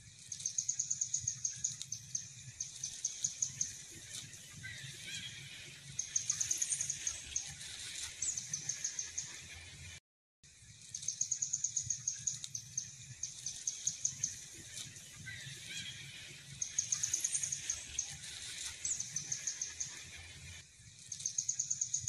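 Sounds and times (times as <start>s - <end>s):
small bird chirping: 0.2s - 9.6s, 10.8s - 22.0s.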